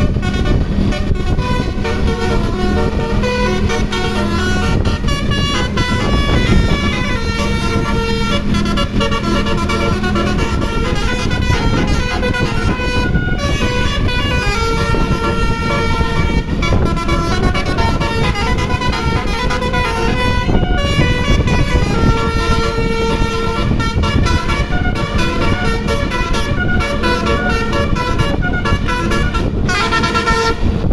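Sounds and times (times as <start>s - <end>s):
multi-tone air horn melody: 0.0s - 30.9s
steady low rumble: 0.0s - 30.9s.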